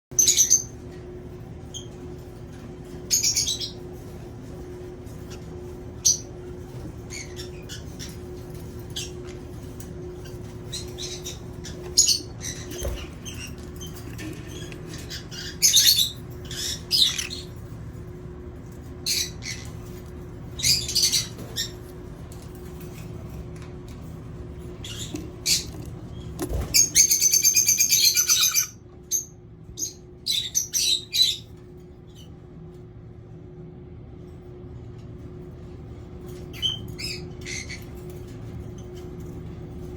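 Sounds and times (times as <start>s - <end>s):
lovebirds chirping and squawking: 0.1s - 32.5s, 35.6s - 39.9s
steady low hum: 0.1s - 39.9s.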